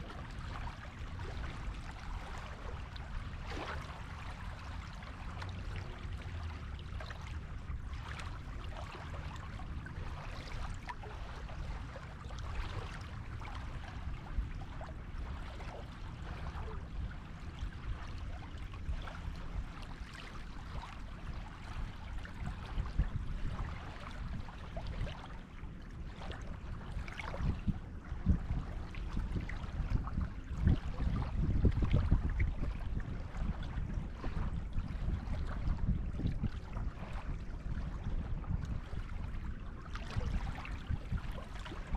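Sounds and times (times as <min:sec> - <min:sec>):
low rumble of surf: 0:00.0 - 0:41.9.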